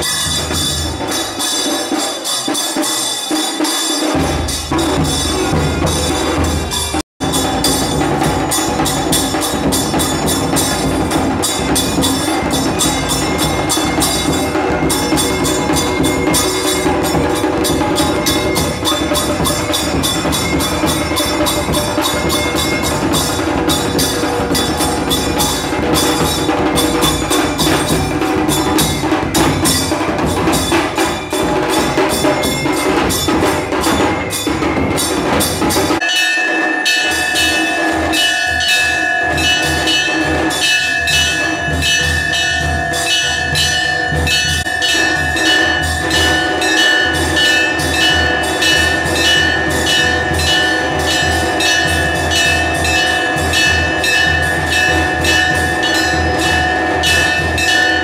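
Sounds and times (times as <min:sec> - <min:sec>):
continuous bell tone: 0:00.0 - 0:58.0
fast rhythmic percussion: 0:00.0 - 0:58.0
temple bells ringing: 0:00.0 - 0:58.0.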